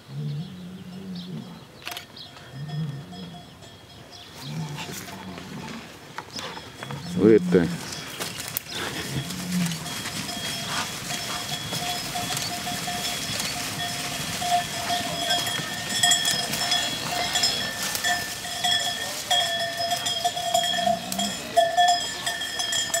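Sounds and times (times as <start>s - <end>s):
cowbell ringing: 2.2s - 5.2s, 6.4s - 23.0s.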